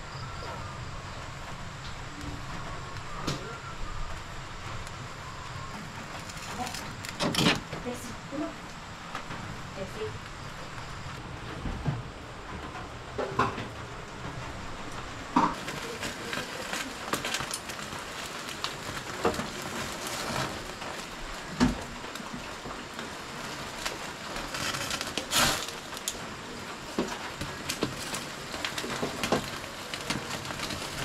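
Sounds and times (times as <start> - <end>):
gas burner hissing: 0.0 - 31.0
small crackles: 0.1 - 31.0.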